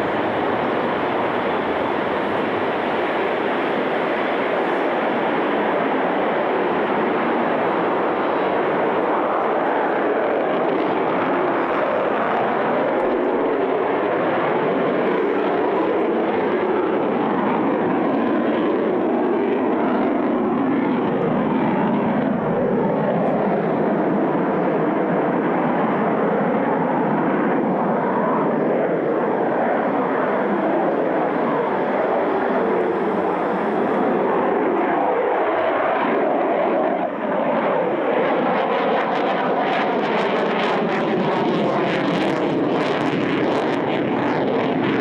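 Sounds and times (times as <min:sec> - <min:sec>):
jet fighter engines roaring: 0:00.0 - 0:45.0.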